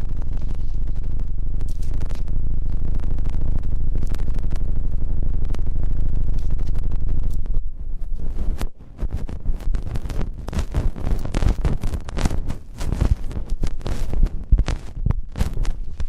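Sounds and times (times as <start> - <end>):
crackling and clicking: 0.0 - 16.0
low rumble of rubbing: 0.0 - 16.0.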